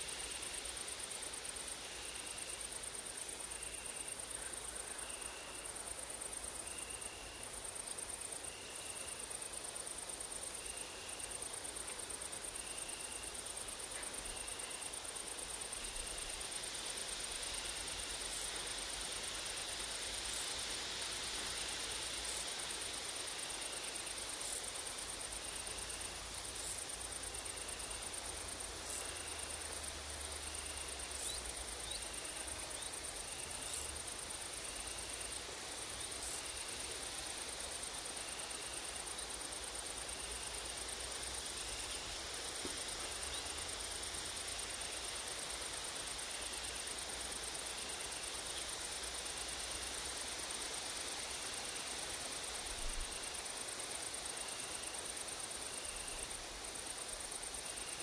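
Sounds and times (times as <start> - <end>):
wind through trees: 0.0 - 58.0
high-pitched insect trill: 0.1 - 58.0.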